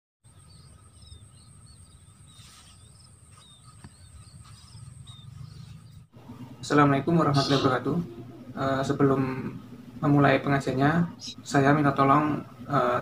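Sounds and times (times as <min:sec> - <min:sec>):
small birds chirping: 0:00.2 - 0:13.0.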